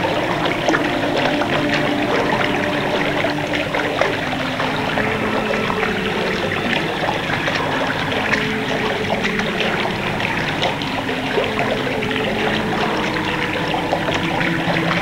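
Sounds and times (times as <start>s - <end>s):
running water babbling: 0.0s - 15.0s.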